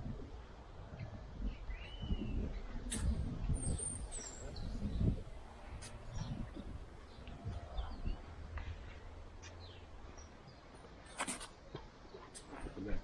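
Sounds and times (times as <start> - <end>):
small birds chirping: 1.0 - 12.8.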